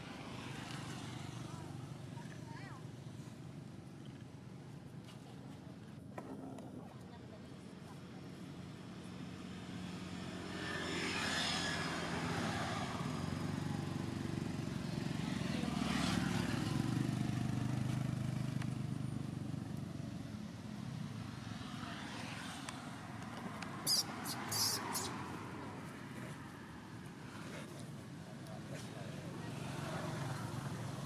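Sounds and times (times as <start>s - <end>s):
engine passing by: 0.0s - 2.8s, 8.7s - 31.0s.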